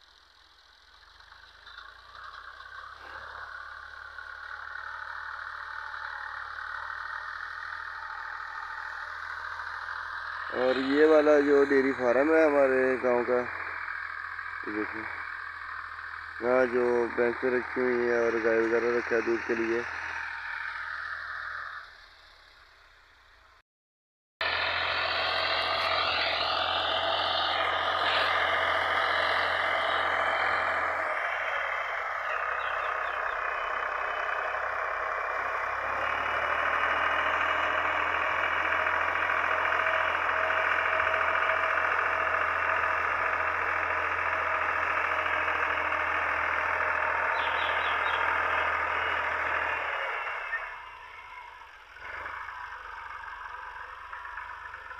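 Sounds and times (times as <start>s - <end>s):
tractor diesel engine under load: 0.0s - 23.6s, 24.4s - 54.9s.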